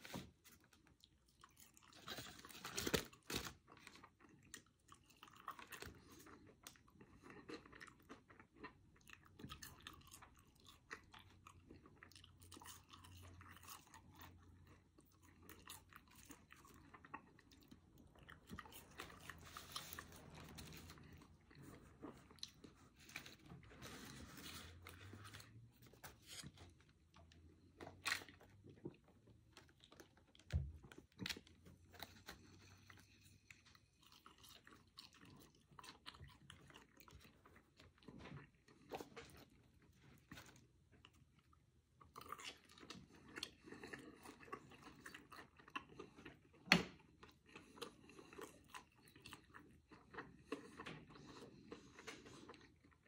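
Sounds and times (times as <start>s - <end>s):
person chewing and crunching food: 0.0s - 53.0s.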